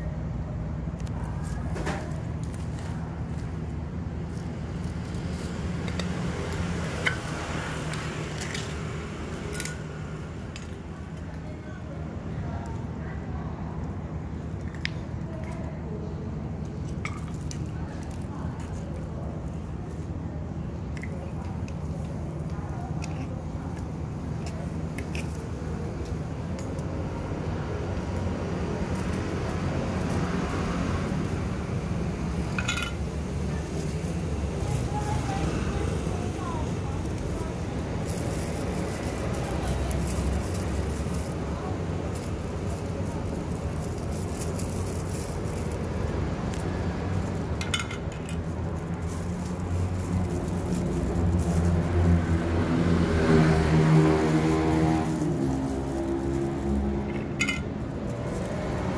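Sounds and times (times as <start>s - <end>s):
low rumble of road traffic: 0.0s - 58.9s.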